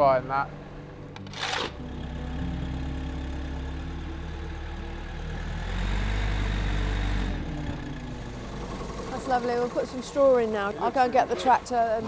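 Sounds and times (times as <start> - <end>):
farm vehicle engine idling: 1.2 - 12.0.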